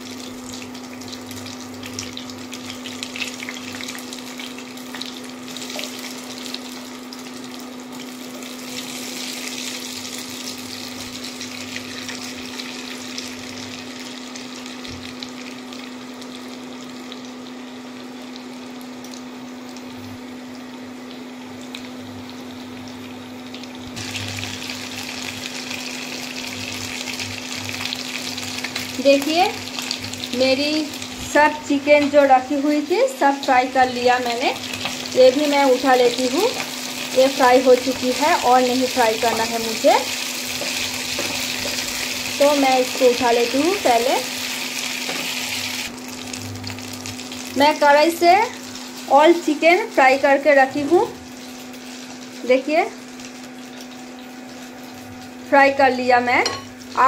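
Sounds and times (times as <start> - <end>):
chicken sizzling in hot oil: 0.0 - 57.0
cooktop hum: 0.0 - 57.0.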